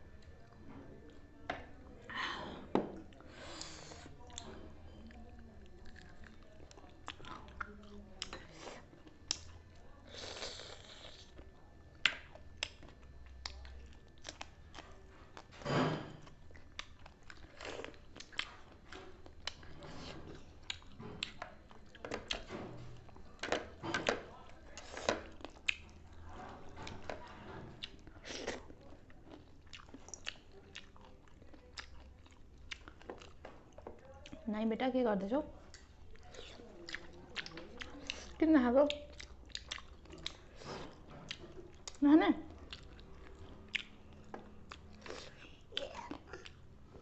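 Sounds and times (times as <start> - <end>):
chewing crunchy food: 3.0 - 34.5, 35.5 - 47.0.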